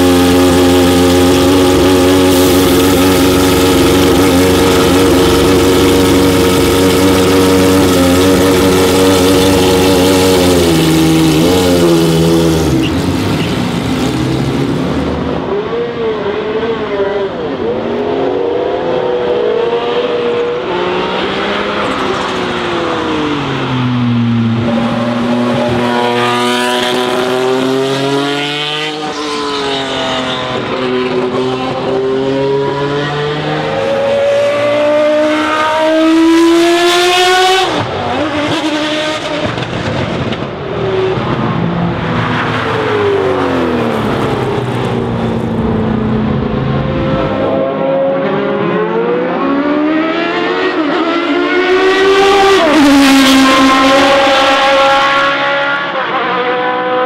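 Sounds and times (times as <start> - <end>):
racing car engines passing: 0.0 - 57.0.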